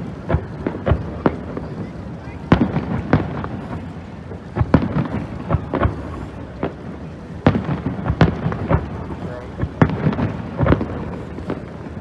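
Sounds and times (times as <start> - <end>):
fireworks bangs with rumbling echo: 0.0 - 12.0.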